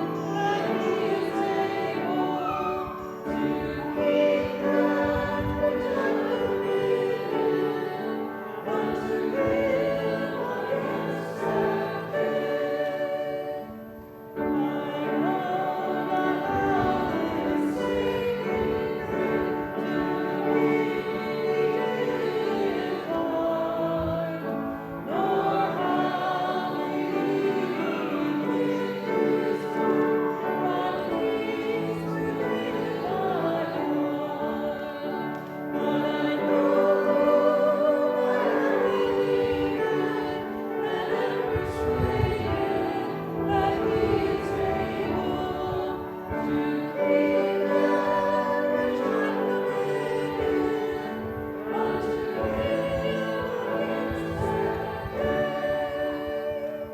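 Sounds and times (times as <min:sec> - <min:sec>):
congregation singing a hymn: 0:00.0 - 0:56.9.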